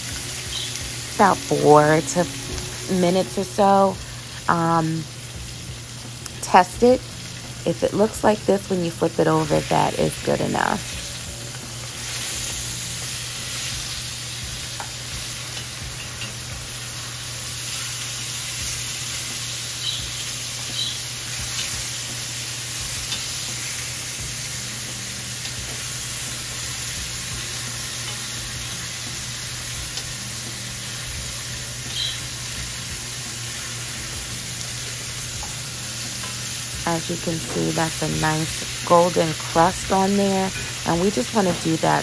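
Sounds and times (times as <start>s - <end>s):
meat sizzling in oil: 0.0s - 42.0s.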